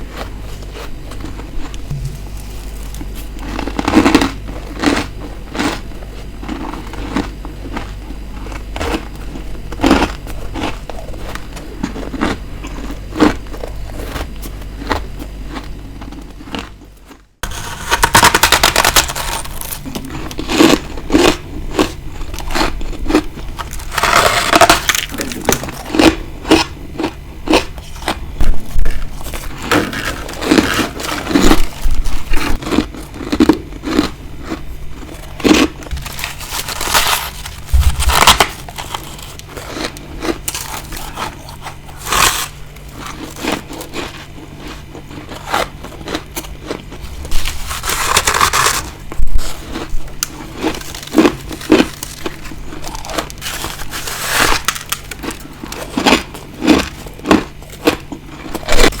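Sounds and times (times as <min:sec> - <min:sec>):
crunching and chewing ice: 0:00.0 - 0:59.0
steady low hum: 0:00.0 - 0:59.0.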